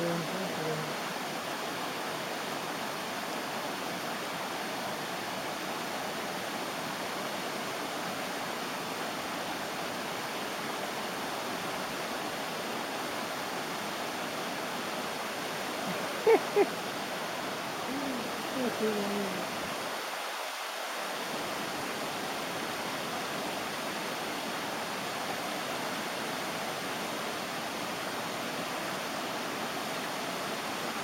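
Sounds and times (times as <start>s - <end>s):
river water pouring over weir: 0.0s - 31.0s.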